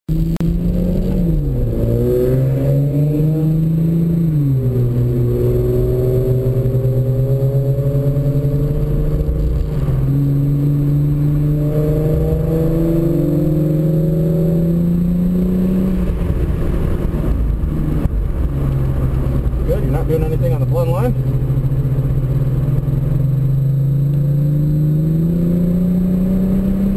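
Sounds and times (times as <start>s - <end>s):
car engine accelerating: 0.1s - 26.9s.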